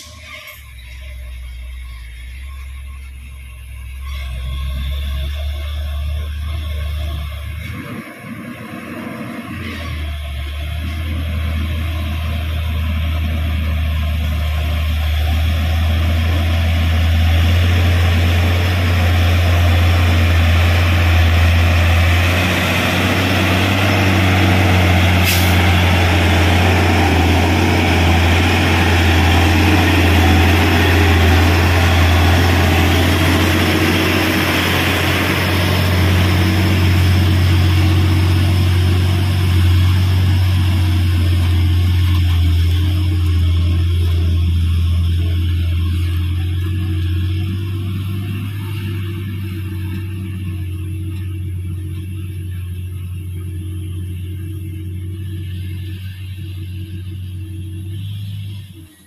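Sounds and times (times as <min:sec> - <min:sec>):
truck diesel engine droning: 0:00.0 - 0:59.0.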